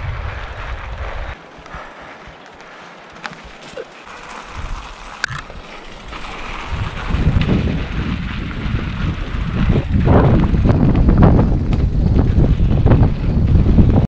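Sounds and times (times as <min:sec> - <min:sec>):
bike tyres rumbling on rocky trail: 0:00.0 - 0:14.0
wind buffeting microphone: 0:00.0 - 0:14.0.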